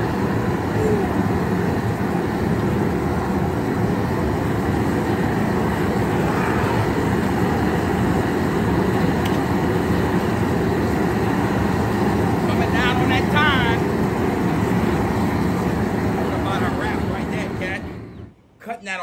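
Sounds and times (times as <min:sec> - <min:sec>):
gas burner rushing: 0:00.0 - 0:18.4.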